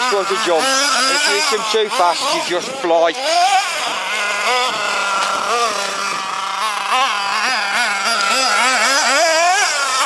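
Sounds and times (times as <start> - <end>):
nitro engine running hard: 0.0 - 10.0.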